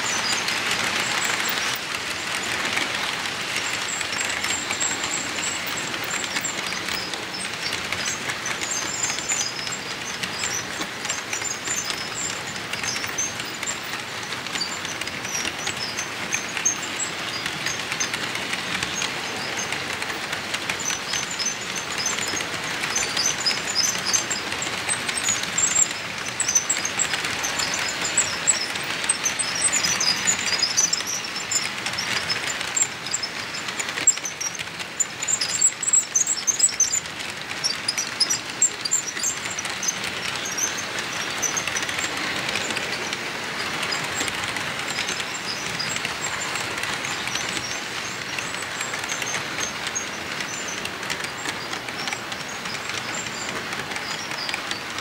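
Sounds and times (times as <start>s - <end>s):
high-pitched wheel ticks and squeaks: 0.0s - 55.0s
model train cars rolling on track: 0.0s - 55.0s.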